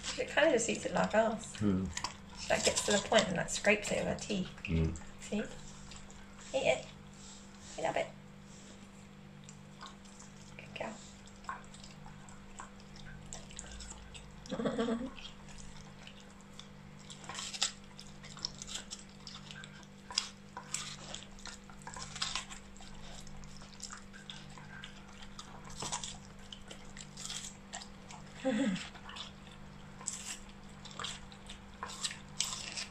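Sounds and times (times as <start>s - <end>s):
puppy chewing watermelon: 0.0s - 32.9s.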